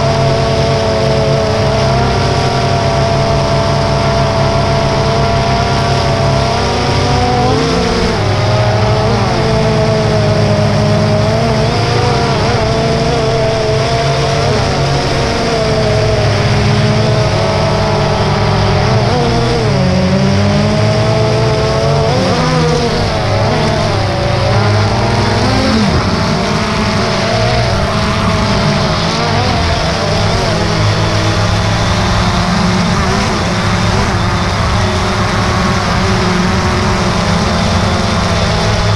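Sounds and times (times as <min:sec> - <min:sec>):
drone motors and propellers whining: 0:00.0 - 0:38.9.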